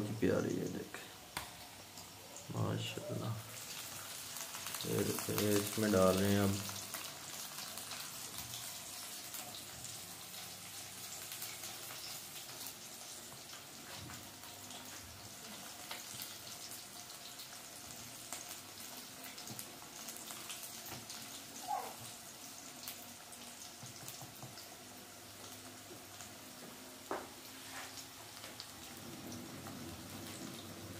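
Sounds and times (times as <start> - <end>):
hot oil sizzling and crackling: 0.0 - 30.9.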